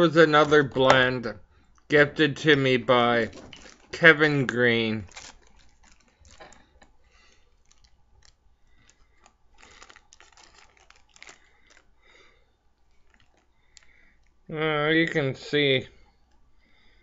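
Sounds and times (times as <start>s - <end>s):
plastic bag crinkling: 0.0s - 14.5s.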